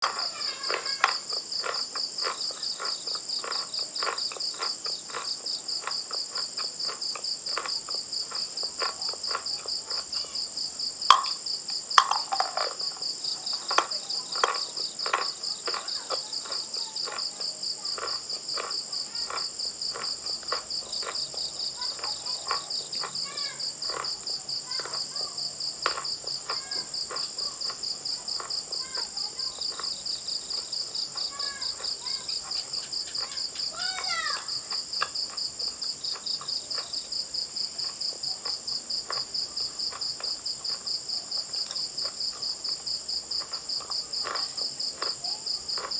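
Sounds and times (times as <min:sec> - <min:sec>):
crickets chirping: 0:00.0 - 0:45.9
crunching and chewing: 0:00.0 - 0:45.9.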